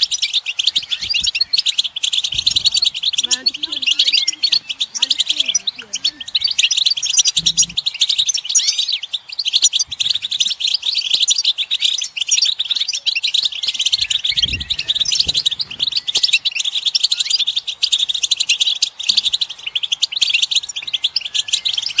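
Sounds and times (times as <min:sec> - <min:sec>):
goldfinches twittering: 0:00.0 - 0:22.0.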